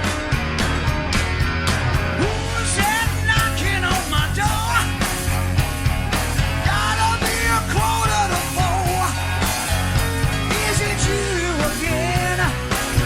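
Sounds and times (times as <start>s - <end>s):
rock band music: 0.0s - 13.0s.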